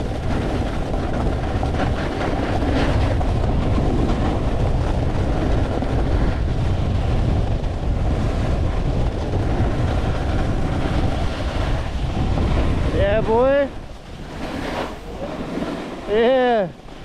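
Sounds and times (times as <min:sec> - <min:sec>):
snowboard scraping over snow: 0:00.0 - 0:17.0
wind rushing over microphone: 0:00.0 - 0:17.0.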